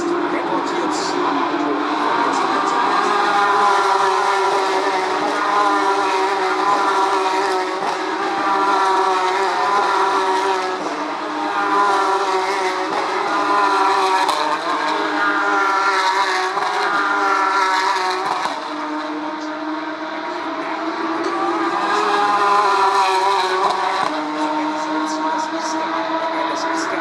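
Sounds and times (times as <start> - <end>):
race car engines howling: 0.0 - 27.0.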